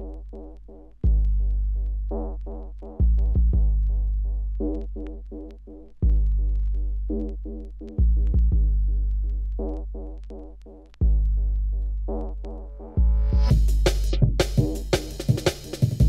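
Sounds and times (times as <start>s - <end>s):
deep sub-bass notes: 0.0s - 16.0s.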